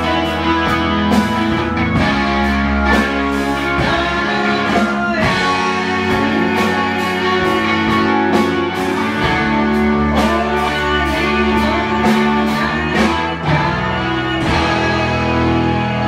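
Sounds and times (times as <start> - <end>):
drum kit and cymbals: 0.0 - 16.0
electric bass: 0.0 - 16.0
electric guitar: 0.0 - 16.0.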